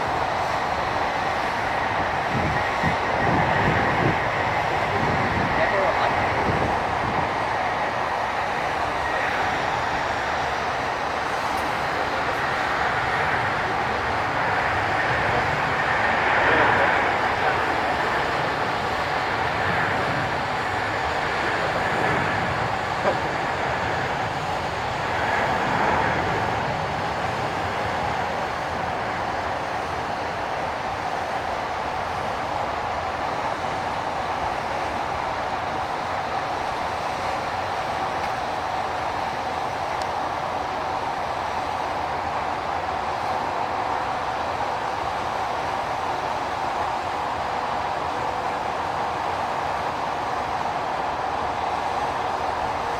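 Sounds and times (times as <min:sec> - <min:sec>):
jet engine rushing: 0:00.0 - 0:52.9.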